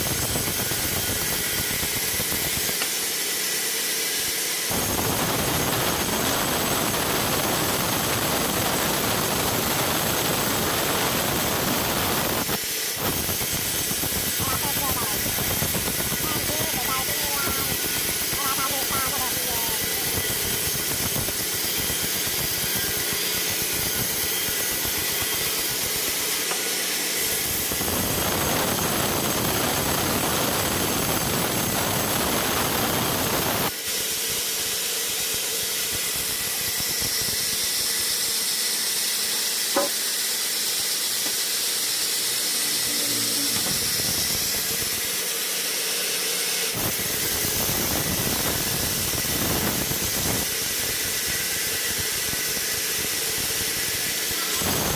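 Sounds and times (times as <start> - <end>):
sawmill machinery hissing: 0.0 - 54.9.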